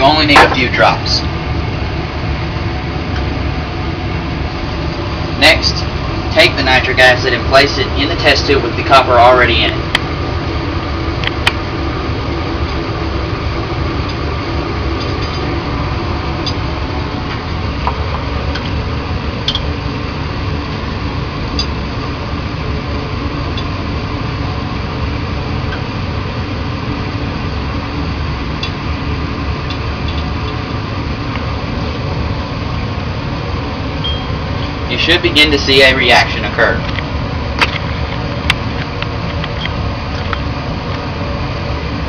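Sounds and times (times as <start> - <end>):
exhaust fan running: 0.0 - 42.0.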